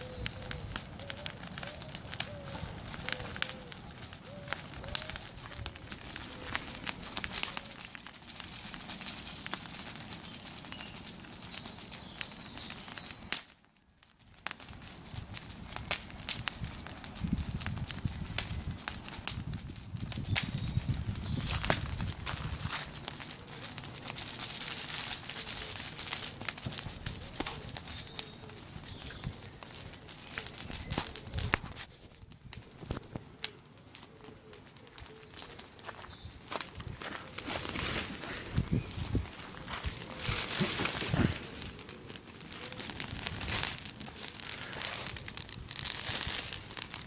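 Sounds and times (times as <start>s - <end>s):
hiss of burning: 0.0s - 13.6s, 14.3s - 47.0s
bonfire crackling and popping: 0.0s - 47.0s.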